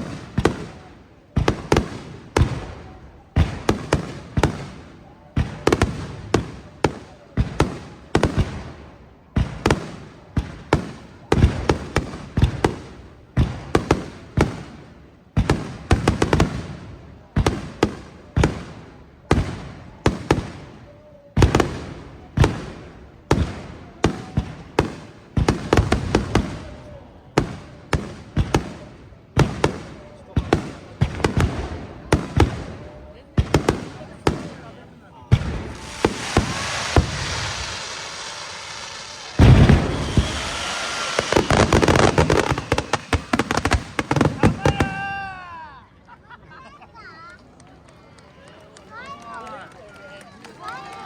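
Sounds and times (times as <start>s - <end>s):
fireworks bursting: 0.0s - 45.2s.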